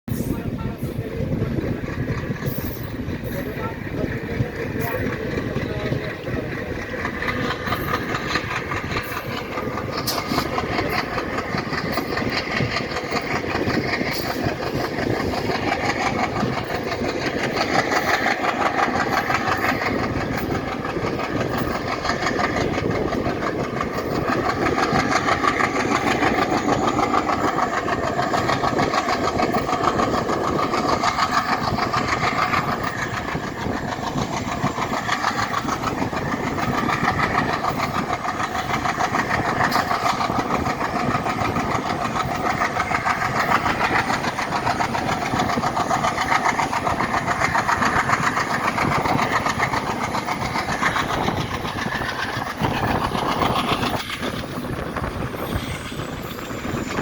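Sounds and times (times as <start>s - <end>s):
diesel locomotive engine throbbing: 0.1s - 57.0s.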